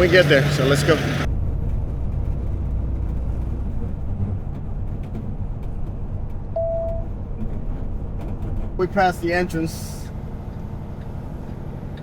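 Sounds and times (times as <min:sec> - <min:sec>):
diesel truck engine drone: 0:00.0 - 0:12.0.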